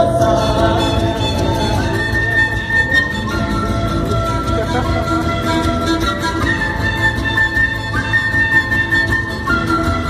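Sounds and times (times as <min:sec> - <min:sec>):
band playing folk music: 0:00.0 - 0:10.0.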